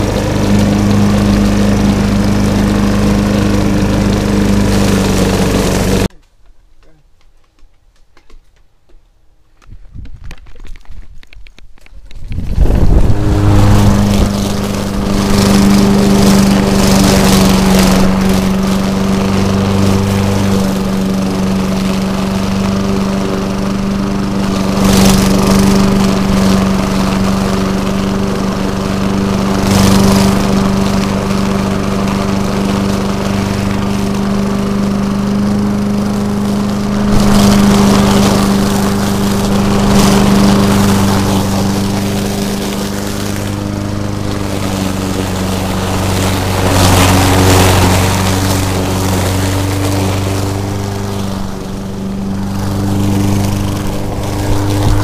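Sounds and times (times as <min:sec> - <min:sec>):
lawn mower running: 0:00.0 - 0:06.2, 0:12.1 - 0:55.0.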